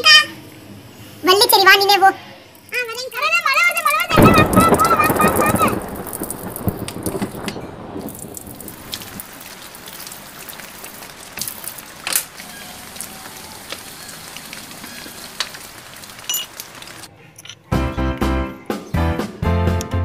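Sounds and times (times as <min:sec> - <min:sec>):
rain on tiled floor: 0:00.0 - 0:17.1.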